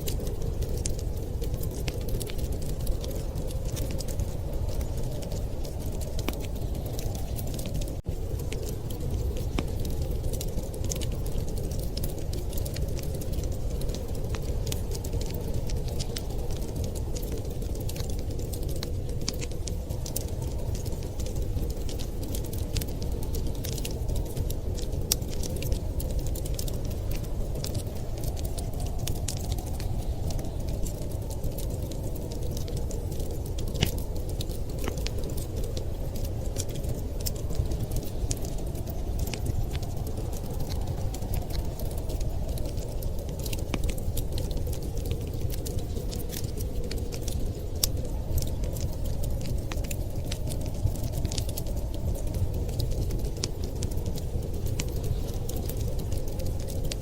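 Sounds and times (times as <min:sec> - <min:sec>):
blizzard wind rumble: 0:00.0 - 0:57.0
wood fire crackling: 0:00.0 - 0:57.0.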